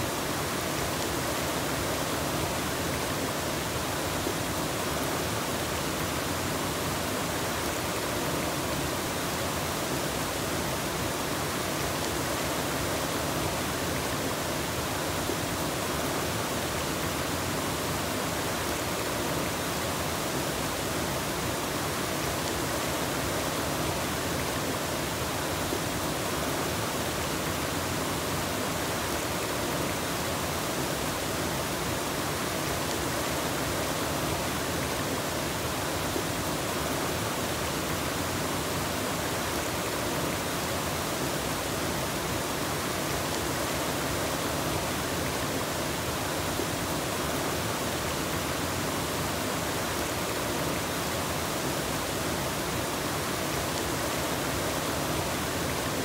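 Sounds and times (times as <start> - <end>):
waterfall rushing into pool: 0.0 - 56.0.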